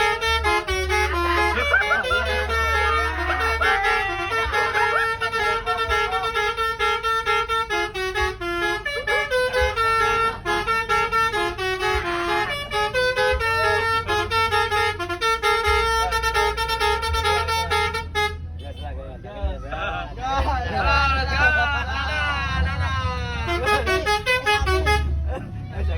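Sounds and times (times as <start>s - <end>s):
musical bus horn playing a tune: 0.0s - 19.0s, 20.8s - 25.9s.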